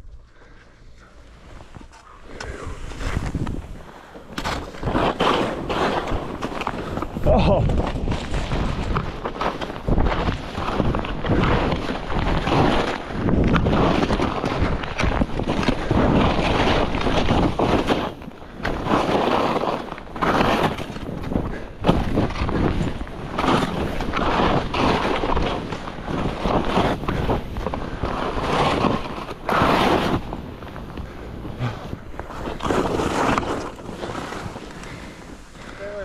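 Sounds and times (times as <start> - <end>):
skis scraping over snow: 0.1 - 36.0
wind rushing over microphone: 1.5 - 36.0.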